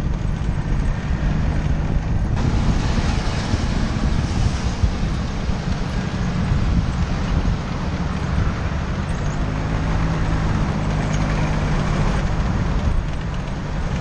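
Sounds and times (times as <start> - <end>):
scooter engine and road rumble: 0.0 - 14.0
wind buffeting microphone: 0.0 - 14.0.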